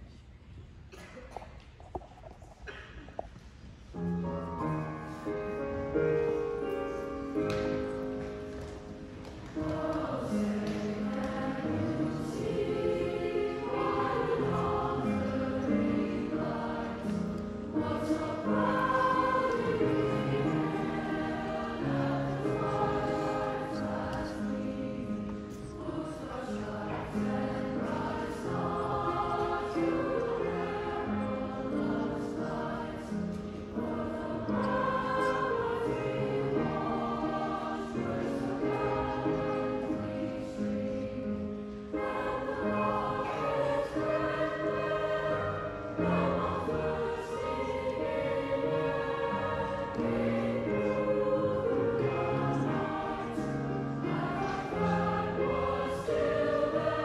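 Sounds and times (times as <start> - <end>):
children's choir singing: 4.0 - 57.0.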